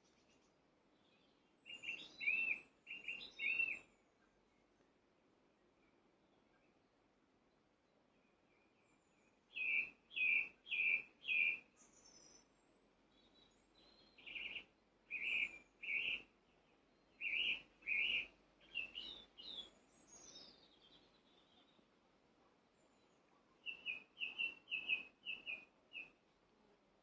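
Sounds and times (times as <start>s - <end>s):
faint high bird chirps: 0.0s - 4.9s, 7.5s - 26.2s.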